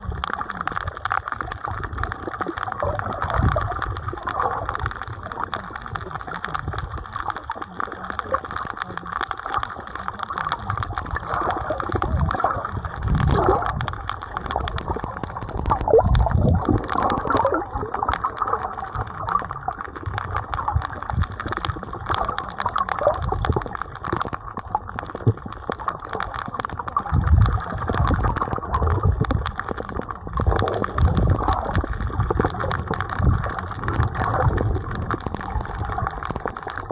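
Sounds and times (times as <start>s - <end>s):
water sloshing and gurgling: 0.0s - 36.9s.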